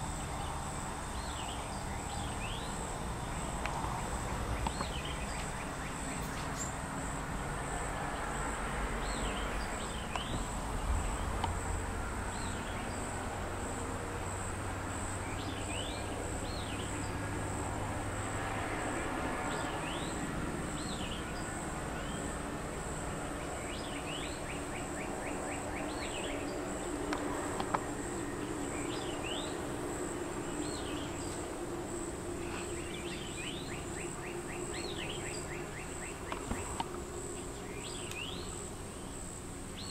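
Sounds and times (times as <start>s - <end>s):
pulsing insect drone: 0.0s - 39.9s.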